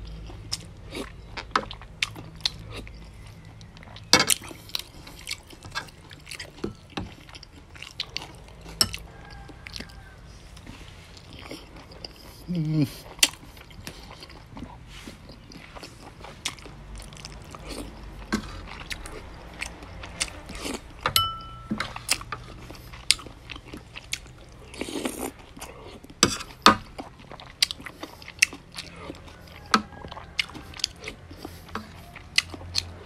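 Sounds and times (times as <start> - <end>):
chewing: 0.0 - 33.0.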